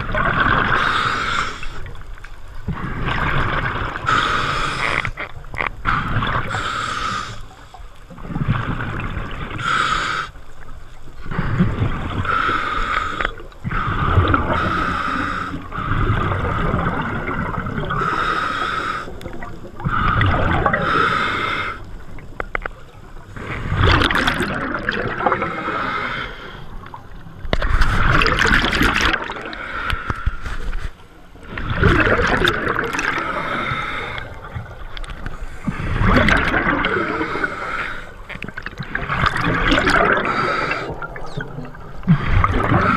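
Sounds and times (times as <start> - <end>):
gurgling exhaled bubbles: 0.0 - 2.0, 2.6 - 6.8, 8.1 - 9.8, 11.2 - 12.5, 13.1 - 29.8, 31.4 - 42.9.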